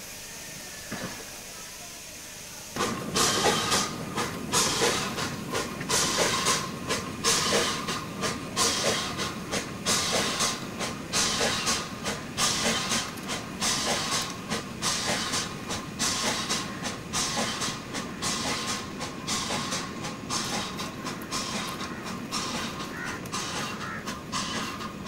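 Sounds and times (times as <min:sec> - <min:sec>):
steam hissing: 0:00.0 - 0:25.0
steam locomotive exhaust beats: 0:00.0 - 0:25.0.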